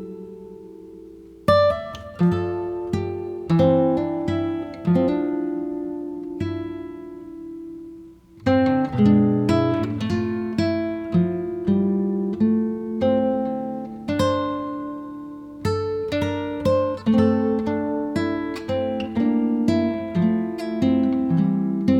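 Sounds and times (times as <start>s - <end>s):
acoustic guitar music: 0.0s - 21.9s.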